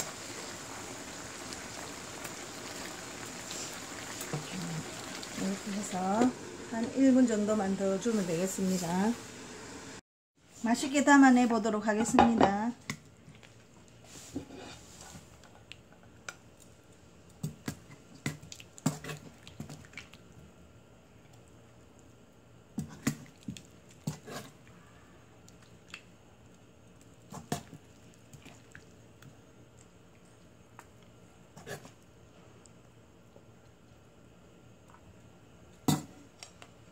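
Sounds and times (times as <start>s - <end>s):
soft wet stew sounds: 0.1s - 9.5s, 12.8s - 36.9s.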